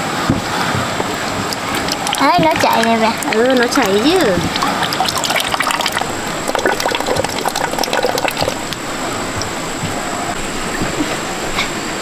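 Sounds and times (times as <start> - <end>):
batter trickling from stone mill: 1.0 - 11.4.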